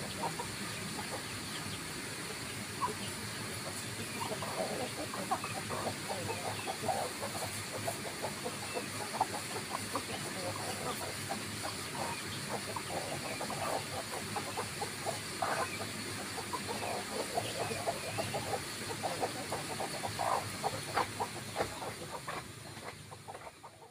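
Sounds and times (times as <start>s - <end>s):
chick peeps: 0.0s - 23.9s
chickens clucking softly: 0.0s - 23.9s.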